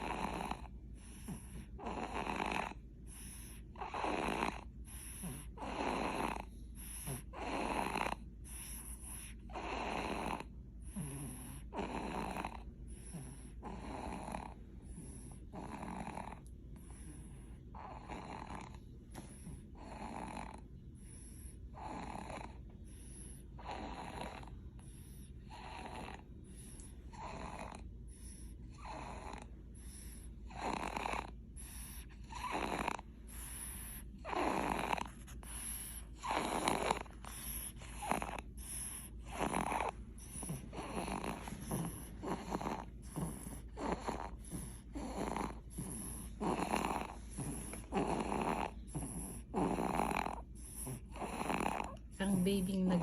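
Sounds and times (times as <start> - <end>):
baby snoring: 0.0 - 53.0.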